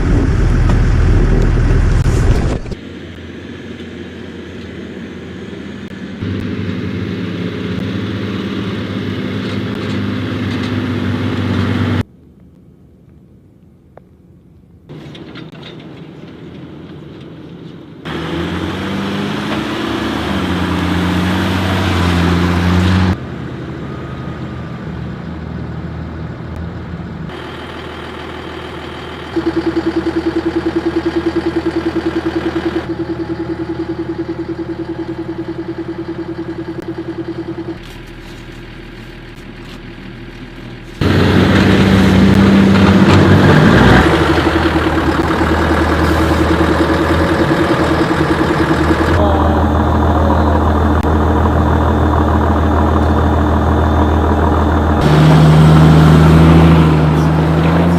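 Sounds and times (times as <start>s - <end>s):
vehicle engines revving: 0.0s - 12.1s, 18.0s - 33.4s, 34.2s - 57.9s.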